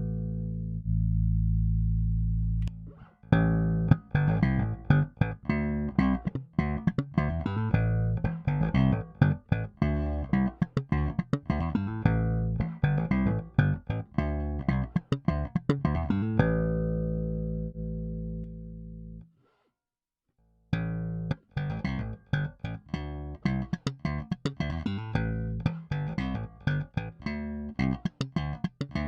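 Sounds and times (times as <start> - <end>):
plucked bass guitar notes: 0.0 - 19.2, 20.7 - 29.0.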